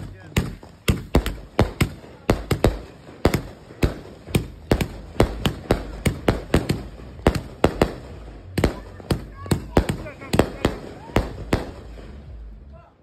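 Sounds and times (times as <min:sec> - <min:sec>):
fireworks bangs and pops: 0:00.0 - 0:12.5.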